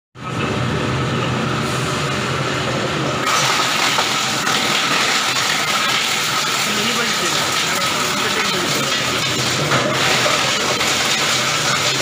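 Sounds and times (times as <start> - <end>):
grinder machine din with whine: 0.2 - 12.0.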